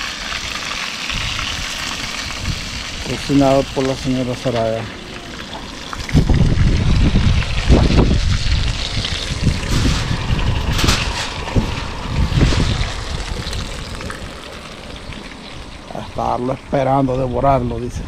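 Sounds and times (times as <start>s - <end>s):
wind buffeting microphone: 1.1s - 4.4s, 5.4s - 18.0s.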